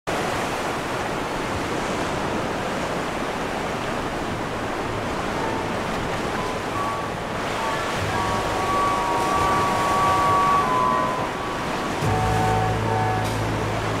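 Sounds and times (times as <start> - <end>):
sea water rushing past boat: 0.1 - 14.0
wind: 0.1 - 14.0.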